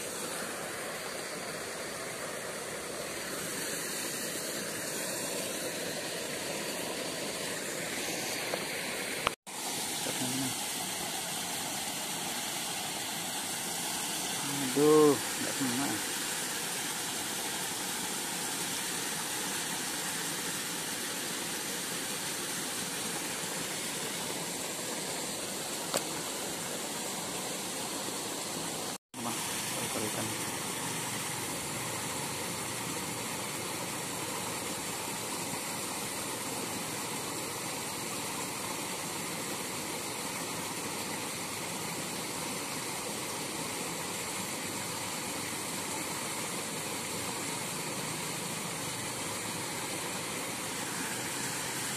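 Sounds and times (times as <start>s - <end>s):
steady hiss: 0.0s - 51.9s.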